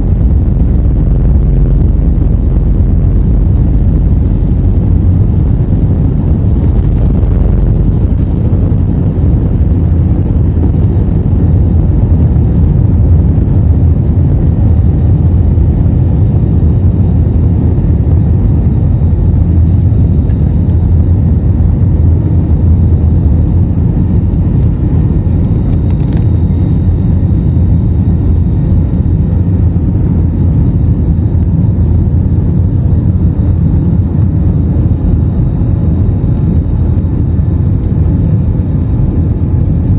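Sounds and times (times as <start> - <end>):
airliner engines rumbling: 0.0 - 39.9
faint high whine: 0.0 - 39.9.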